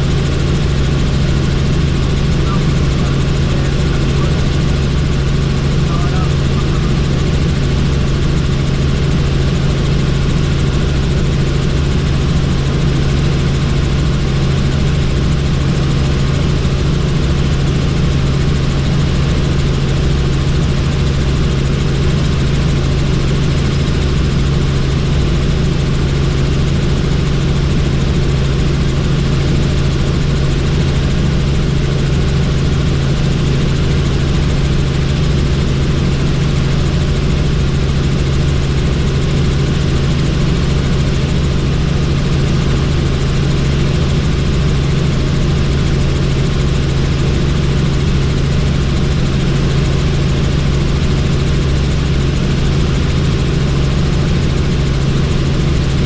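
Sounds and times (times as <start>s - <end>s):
helicopter engine and rotors: 0.0s - 56.0s.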